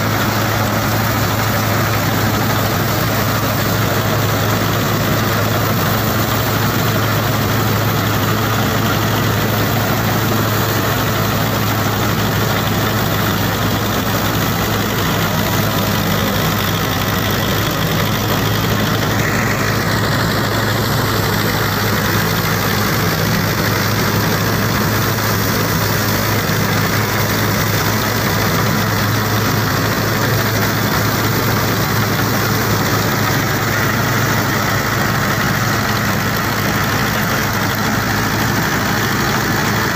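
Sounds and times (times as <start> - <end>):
reaper machinery running: 0.0 - 39.9
tractor diesel engine running: 0.0 - 39.9.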